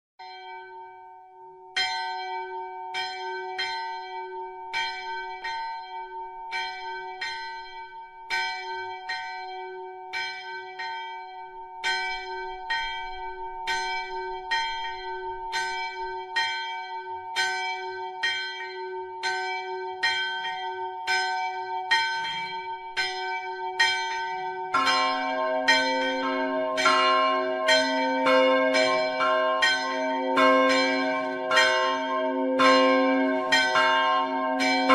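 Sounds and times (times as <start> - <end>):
church bells ringing: 0.2 - 34.9
lower-pitched bell: 0.2 - 34.9.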